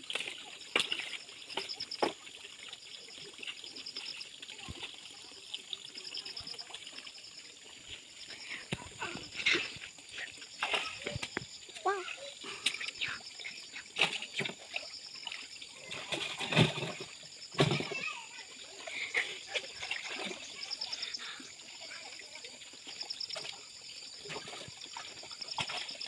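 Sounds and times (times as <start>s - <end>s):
pond water splashing: 0.0s - 26.0s.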